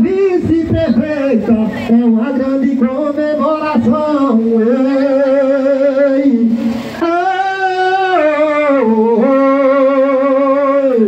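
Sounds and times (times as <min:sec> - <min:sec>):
person singing through loudspeakers: 0:00.0 - 0:11.0.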